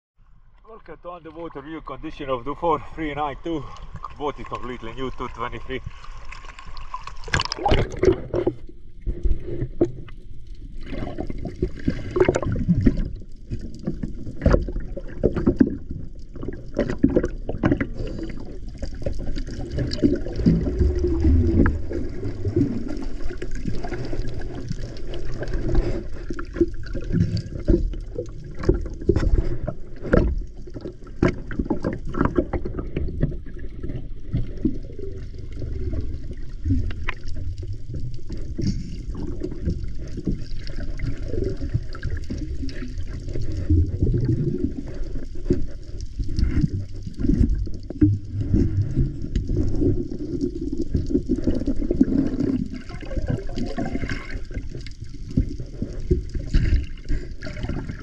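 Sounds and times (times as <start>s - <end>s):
muffled water sloshing underwater: 0.2s - 58.0s.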